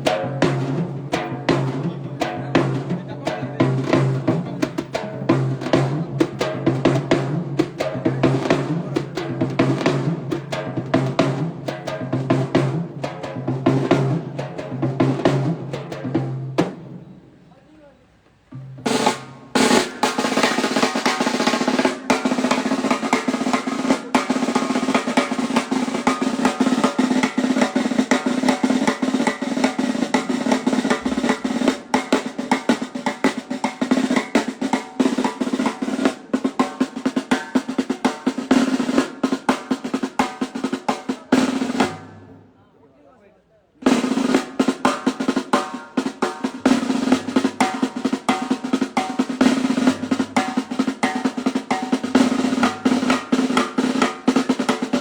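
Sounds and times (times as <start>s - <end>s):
drum roll: 0.0s - 17.8s, 18.4s - 42.7s, 43.8s - 55.0s.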